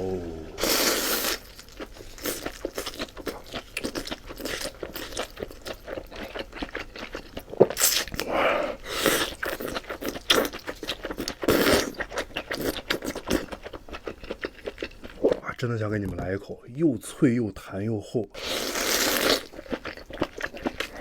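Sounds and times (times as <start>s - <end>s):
crunchy chewing: 0.6s - 15.4s, 18.4s - 21.0s.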